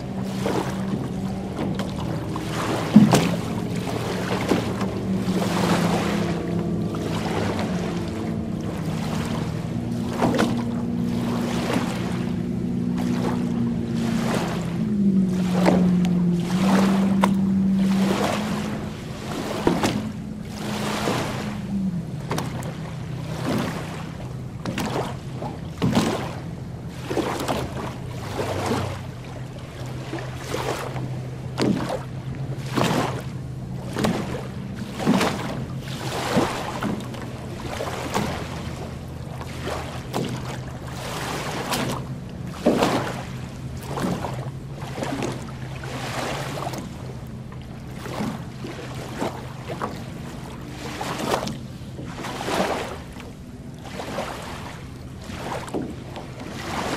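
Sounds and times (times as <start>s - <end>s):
low engine hum: 0.0s - 56.9s
waves lapping on sand: 0.0s - 56.9s.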